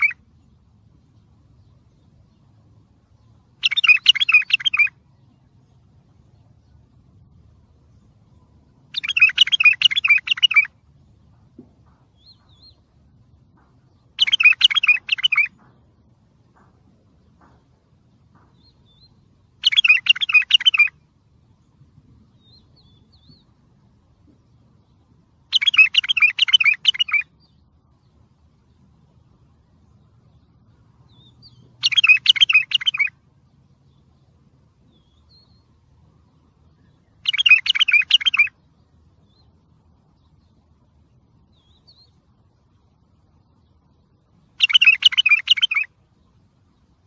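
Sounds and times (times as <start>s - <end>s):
bird singing warbling phrases: 0.0s - 11.1s, 11.8s - 15.9s, 18.3s - 23.6s, 24.4s - 47.0s.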